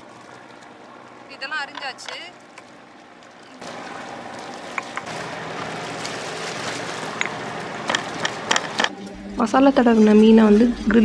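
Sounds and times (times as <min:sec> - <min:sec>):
wind: 0:00.0 - 0:08.9
water along shore: 0:00.0 - 0:09.3.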